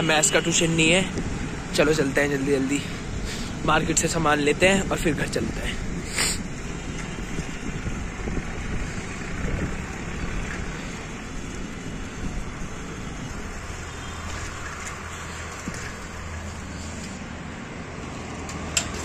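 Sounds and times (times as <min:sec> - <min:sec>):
road traffic noise: 0:00.0 - 0:19.0
wind noise on microphone: 0:00.8 - 0:02.1, 0:02.8 - 0:17.4.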